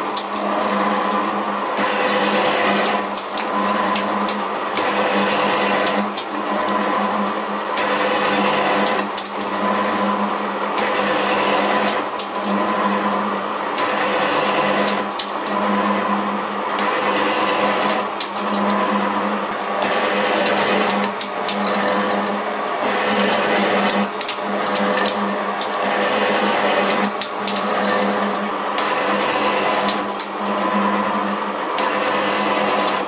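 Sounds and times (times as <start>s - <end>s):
metal shaper planing metal: 0.0s - 16.0s, 16.8s - 33.0s
steady motor hum: 0.0s - 33.0s.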